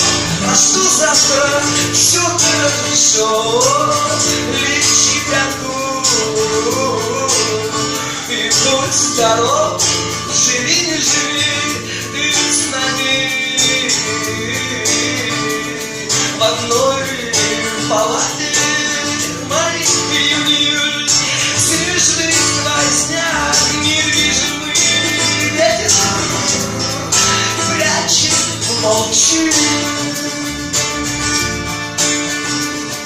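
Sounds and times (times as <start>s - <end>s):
rock band playing live: 0.0s - 33.0s.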